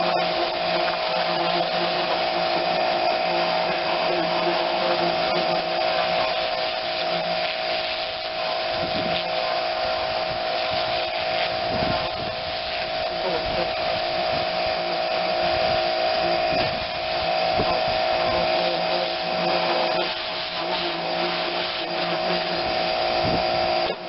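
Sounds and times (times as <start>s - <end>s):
pressure washer motor whine: 0.0s - 24.0s
water spray hissing: 0.0s - 24.0s.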